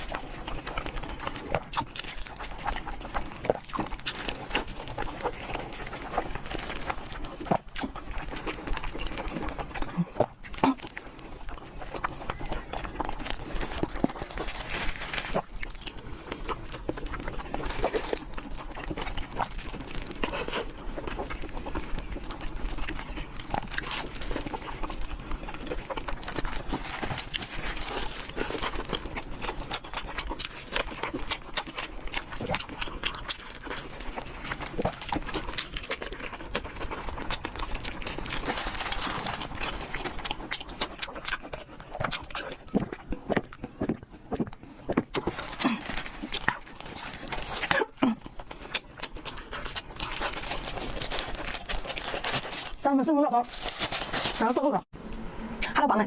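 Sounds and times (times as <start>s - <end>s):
close-up chewing and mouth sounds: 0.0s - 55.8s.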